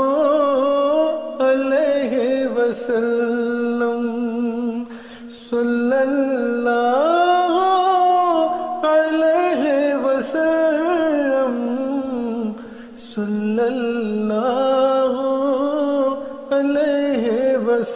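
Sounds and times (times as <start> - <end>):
person singing devotional song: 0.0 - 17.9.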